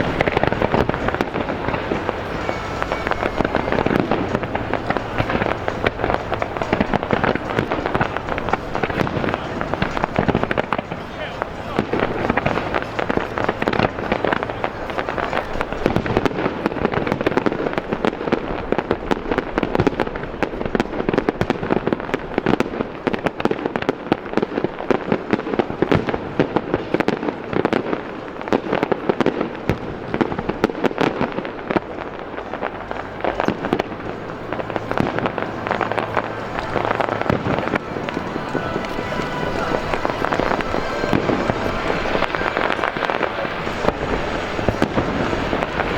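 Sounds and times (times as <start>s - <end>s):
fireworks crackling bangs: 0.0s - 45.9s.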